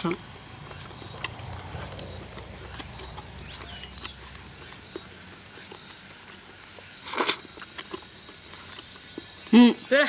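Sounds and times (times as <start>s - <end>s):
insect chirping: 0.0s - 10.0s
person chewing: 0.1s - 9.6s.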